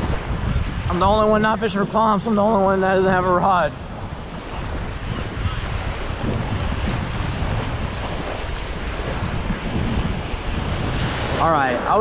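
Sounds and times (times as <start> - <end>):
surf waves washing: 0.0 - 12.0
wind rumbling on microphone: 0.0 - 12.0.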